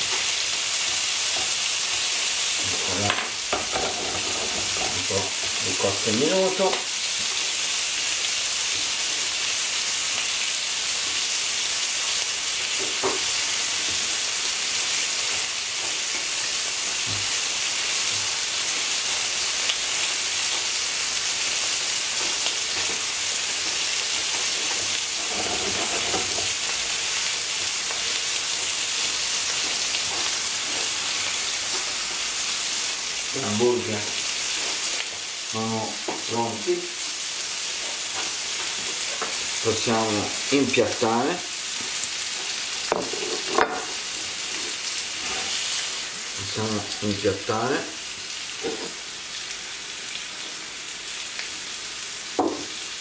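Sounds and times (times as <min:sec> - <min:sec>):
food sizzling: 0:00.0 - 0:53.0.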